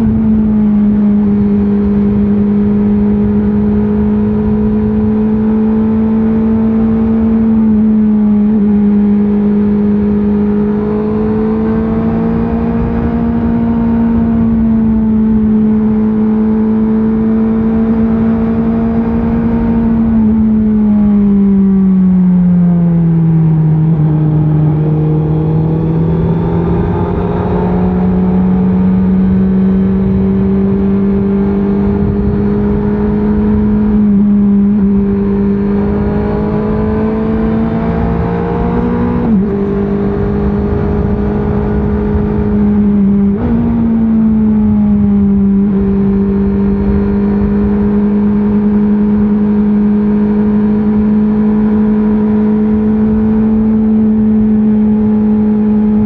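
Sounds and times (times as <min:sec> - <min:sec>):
motorcycle engine running on road: 0:00.0 - 0:56.0.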